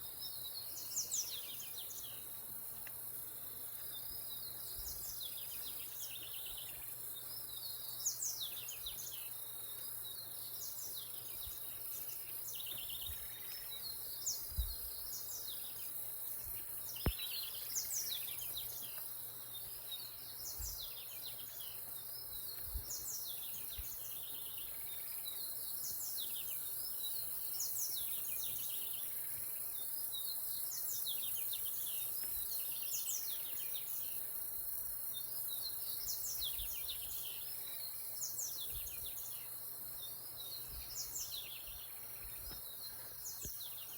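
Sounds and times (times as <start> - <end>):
insects hissing: 0.0 - 43.9
birds chirping and trilling: 3.6 - 43.9.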